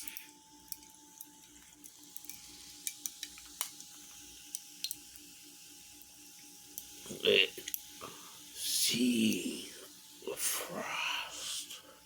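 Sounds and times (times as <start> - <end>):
carbonation crackling and ticking: 0.0 - 10.5
faint steady hum: 0.0 - 12.0.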